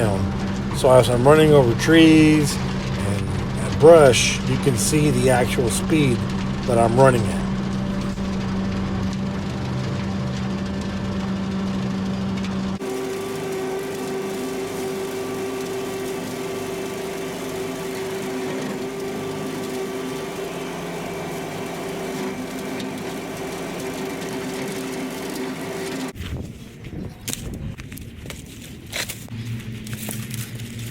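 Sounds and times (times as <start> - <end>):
tractor diesel engine droning: 0.0 - 30.9.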